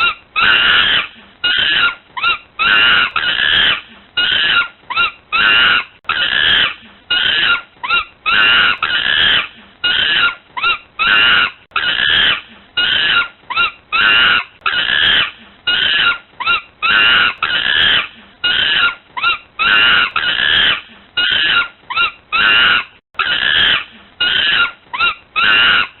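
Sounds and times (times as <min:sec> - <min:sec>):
monkey screaming: 0:00.0 - 0:26.0.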